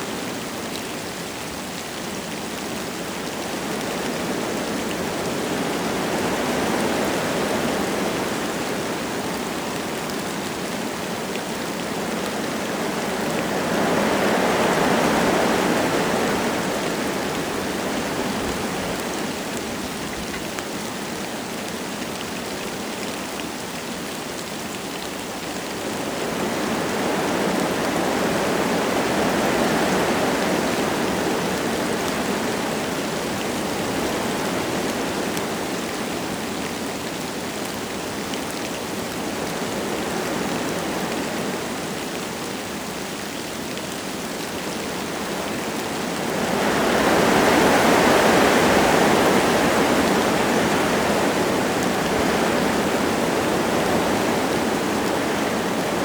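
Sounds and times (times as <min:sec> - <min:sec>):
light rain pattering: 0:00.0 - 0:56.0
wind gusting through trees: 0:00.0 - 0:56.0.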